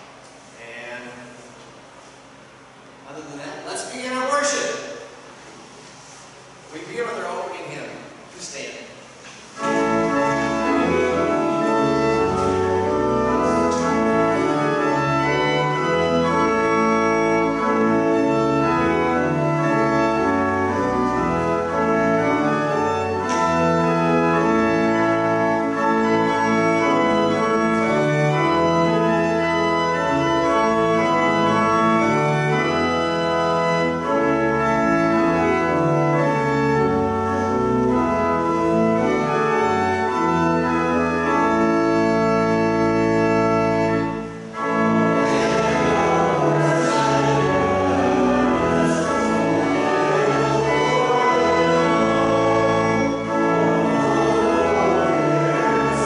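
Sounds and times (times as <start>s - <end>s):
church organ playing hymn: 0.0s - 56.0s.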